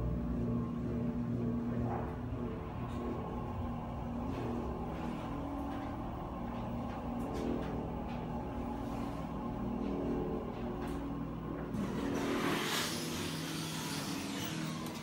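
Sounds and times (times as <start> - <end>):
elevator pump hum: 0.0 - 15.0.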